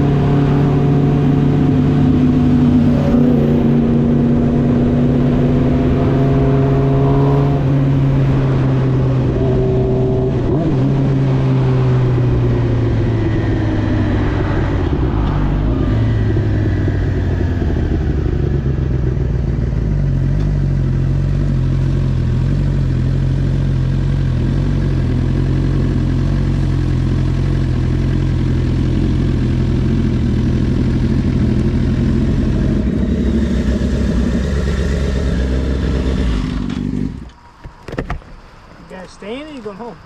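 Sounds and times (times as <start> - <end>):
car engine at steady cruise: 0.0 - 40.0.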